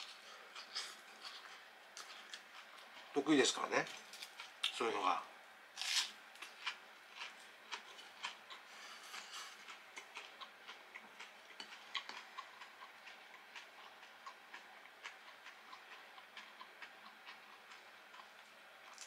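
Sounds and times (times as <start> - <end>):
person chewing food: 0.0 - 3.1, 3.9 - 4.8, 5.8 - 19.0.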